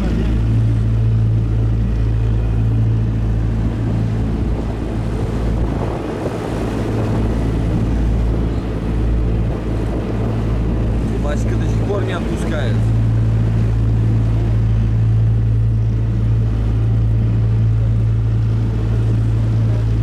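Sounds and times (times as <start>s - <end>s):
boat engine droning: 0.0s - 20.0s
water rushing along hull: 0.0s - 20.0s.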